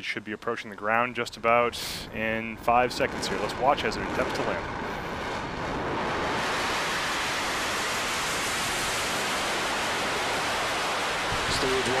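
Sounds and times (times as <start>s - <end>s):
rocket engine rushing roar: 0.7s - 12.0s.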